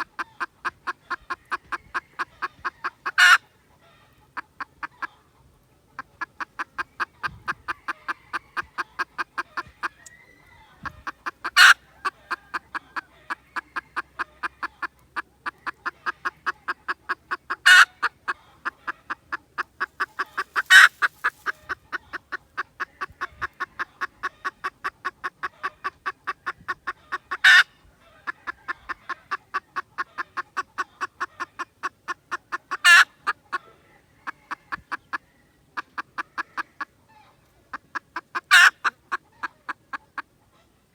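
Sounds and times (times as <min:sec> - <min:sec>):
junglefowl clucking: 0:00.0 - 0:40.9.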